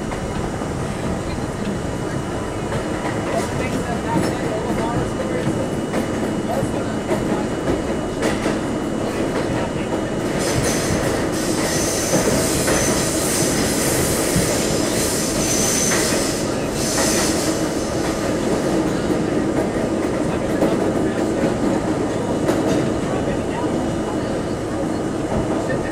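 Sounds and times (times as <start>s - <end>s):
subway train rumbling in tunnel: 0.0s - 25.9s.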